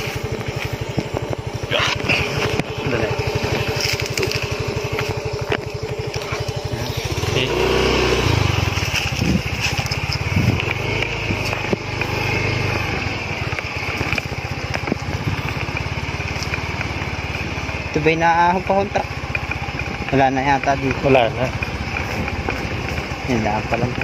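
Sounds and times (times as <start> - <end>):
small motorcycle engine revving: 0.0 - 24.0.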